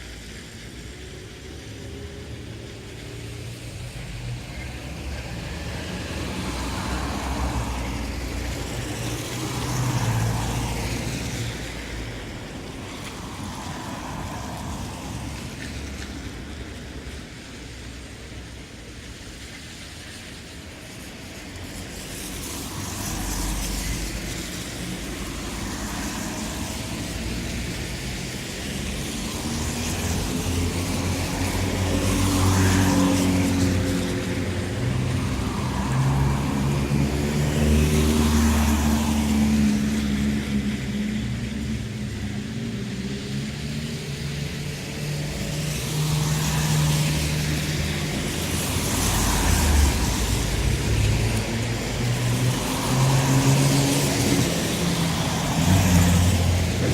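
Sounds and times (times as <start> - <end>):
tyres hissing on wet road: 0.0 - 56.9
vehicle engines passing: 0.0 - 56.9.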